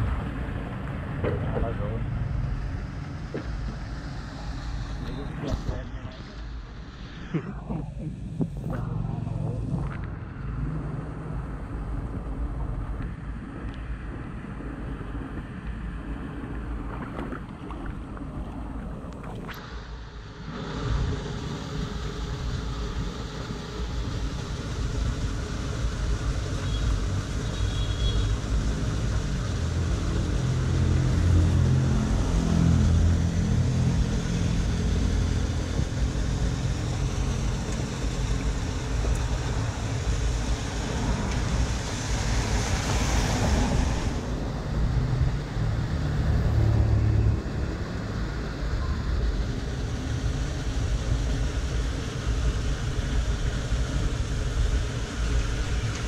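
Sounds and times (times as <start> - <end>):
vehicle on wet road: 0.0 - 56.0.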